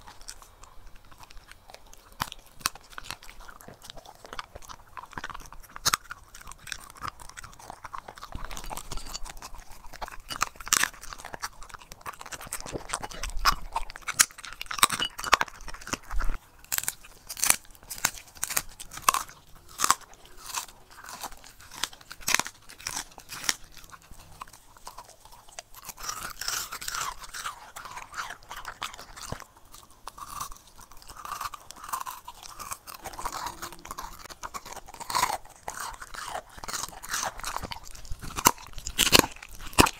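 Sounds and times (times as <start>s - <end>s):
dog crunching and chewing: 0.0s - 39.9s.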